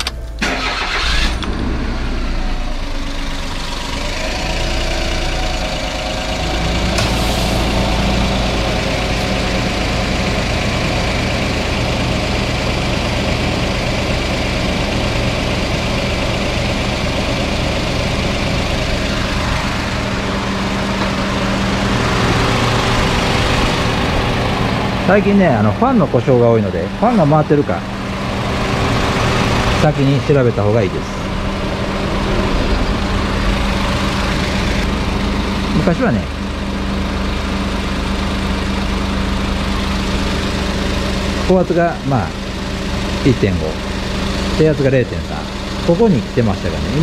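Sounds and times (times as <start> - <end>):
car engine starting and idling: 0.0 - 47.0.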